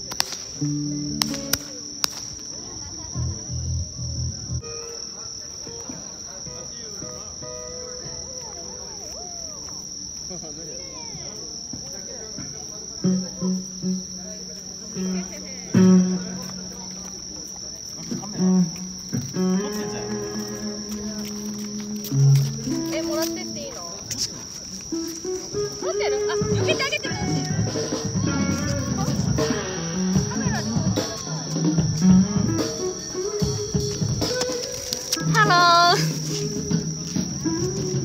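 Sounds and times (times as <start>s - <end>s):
crickets trilling: 0.0s - 38.0s.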